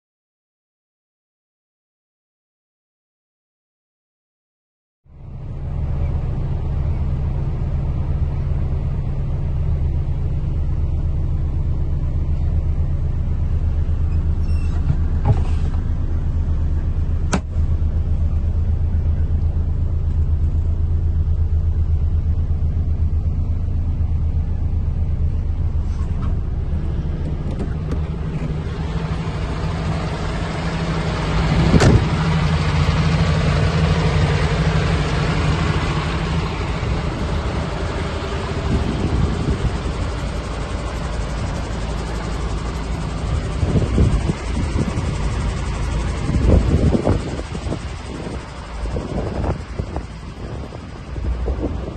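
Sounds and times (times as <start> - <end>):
diesel truck engine idling: 5.1 - 51.9.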